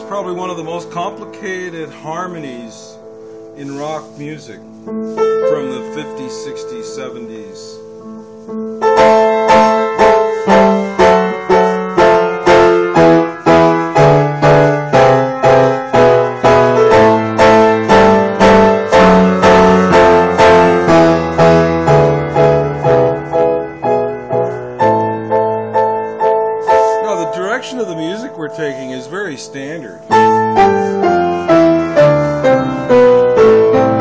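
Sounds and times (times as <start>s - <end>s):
piano bass line: 0.0s - 34.0s
piano repeated chords: 0.0s - 34.0s.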